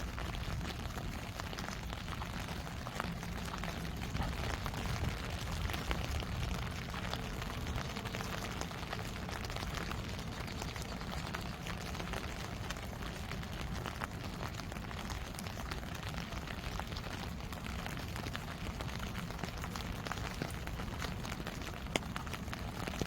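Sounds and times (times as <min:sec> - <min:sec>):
raindrops ticking close by: 0:00.0 - 0:23.0
steady rainfall: 0:00.0 - 0:23.0.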